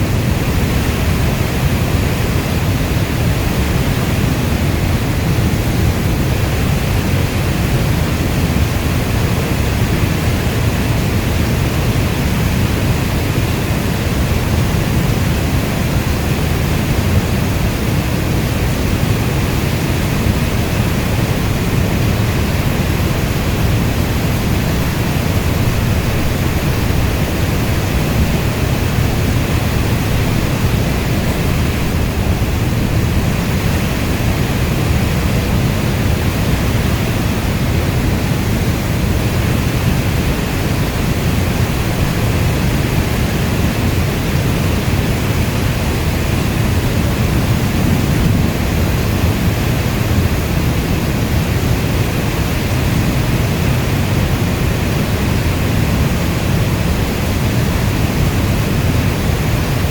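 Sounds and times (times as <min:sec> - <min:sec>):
heavy rainfall: 0:00.0 - 0:59.9.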